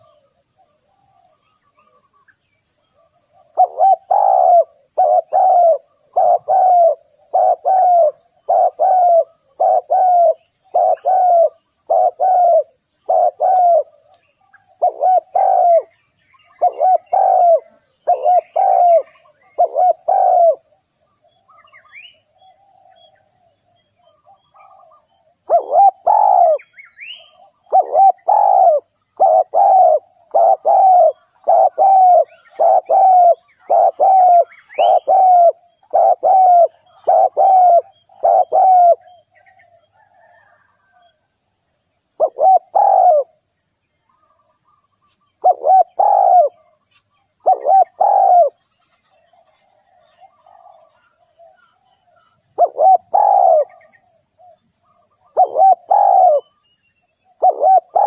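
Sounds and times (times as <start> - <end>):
dove cooing: 0.0 - 2.2, 3.0 - 20.7, 21.6 - 41.2, 42.2 - 43.4, 45.4 - 46.8, 47.4 - 48.6, 49.2 - 56.6, 57.2 - 58.0
small birds chirping: 0.0 - 41.1, 42.0 - 43.4, 44.0 - 58.0.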